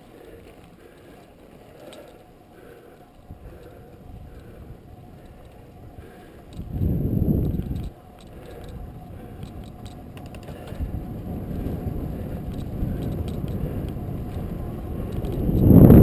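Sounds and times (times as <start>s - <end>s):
bicycle clicks and rattles: 0.0s - 16.0s
wind buffeting microphone: 2.6s - 16.0s.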